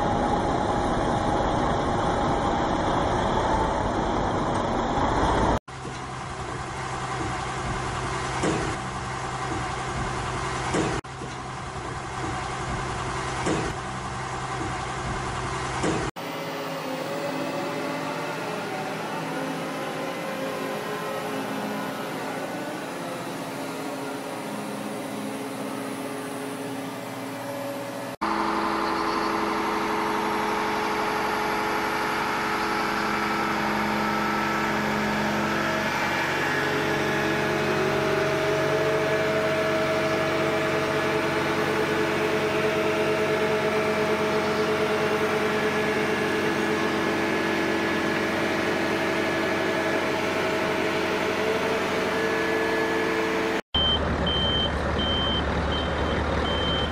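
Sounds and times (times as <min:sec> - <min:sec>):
heavy vehicle engine running: 0:00.0 - 0:56.9.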